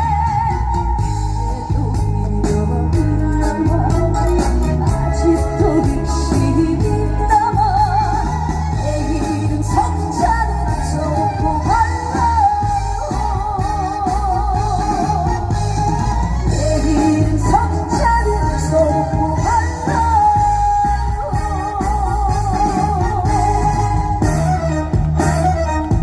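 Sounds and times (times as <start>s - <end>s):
band backing with steady beat: 0.0s - 26.0s.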